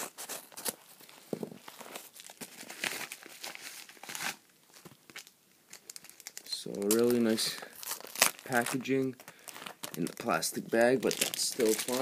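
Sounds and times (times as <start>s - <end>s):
package crinkling and tearing: 0.0s - 12.0s.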